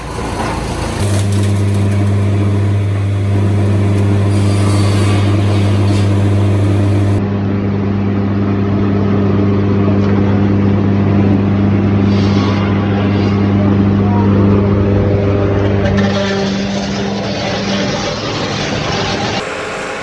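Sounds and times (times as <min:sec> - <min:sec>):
sawmill machinery humming: 0:00.0 - 0:07.6, 0:09.9 - 0:20.0.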